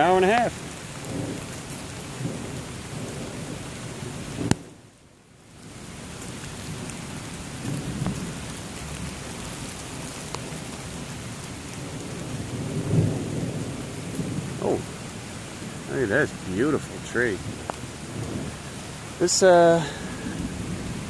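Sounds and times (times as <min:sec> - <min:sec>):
thunder rumbling: 0:00.0 - 0:04.9, 0:06.0 - 0:21.0
rain on foliage: 0:00.0 - 0:21.0.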